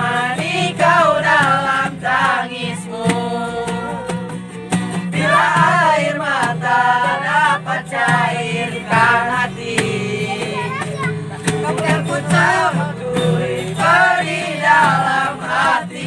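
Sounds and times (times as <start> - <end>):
backing music: 0.0 - 16.0.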